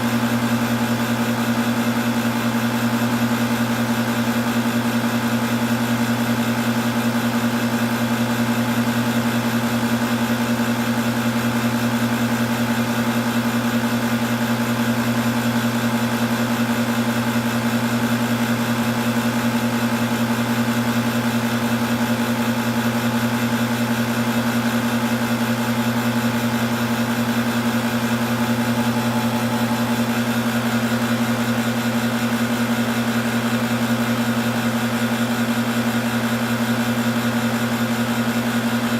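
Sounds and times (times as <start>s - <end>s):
air conditioning compressor humming: 0.0s - 38.9s.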